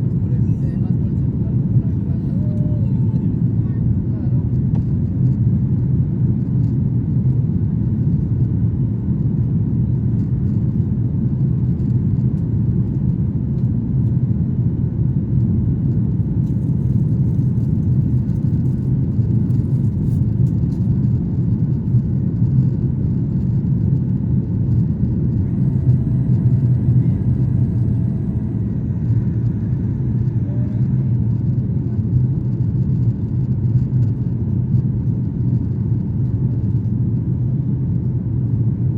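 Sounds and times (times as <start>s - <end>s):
jet airliner engines rumbling: 0.0s - 38.9s.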